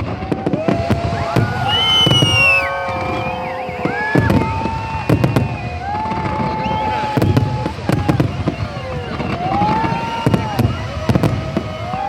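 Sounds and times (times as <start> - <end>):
firework whistles: 0.0 - 12.0
fireworks bangs and crackles: 0.0 - 12.0.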